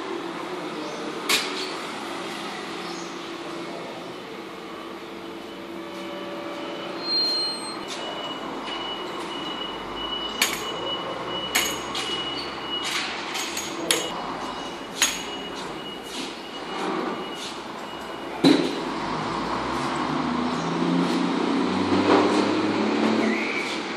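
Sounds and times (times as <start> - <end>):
outdoor background noise: 0.0 - 23.9.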